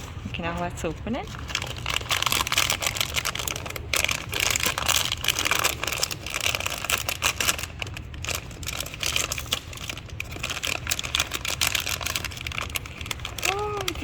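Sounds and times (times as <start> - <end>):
plastic wrapping crinkling and tearing: 0.0 - 14.0.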